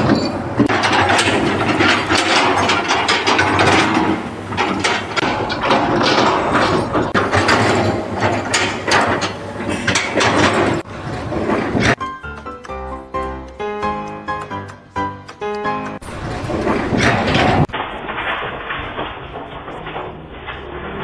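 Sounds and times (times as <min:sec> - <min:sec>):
machinery rattling and clattering: 0:00.0 - 0:12.4, 0:16.0 - 0:21.0.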